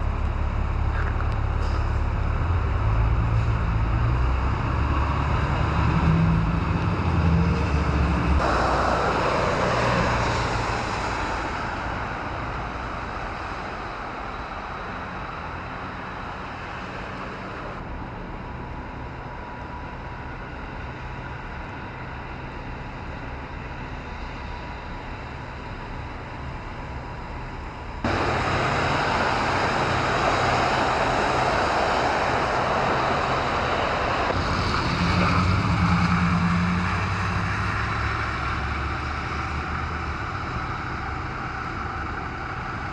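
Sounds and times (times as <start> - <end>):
vehicle engine rumble: 0.0 - 42.9.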